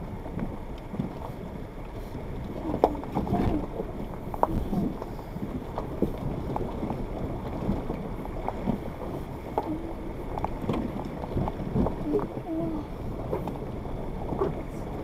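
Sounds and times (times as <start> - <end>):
vehicle rolling low rumble: 0.0 - 15.0
stones crunching under tyres: 0.2 - 12.4.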